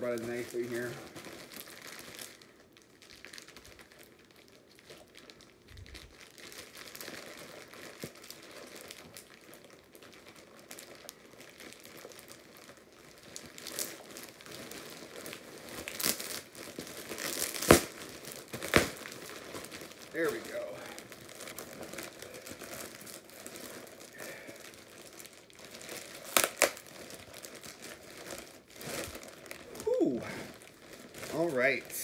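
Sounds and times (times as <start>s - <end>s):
plastic bag crinkling: 0.0s - 32.0s
plastic crackles: 0.0s - 32.0s.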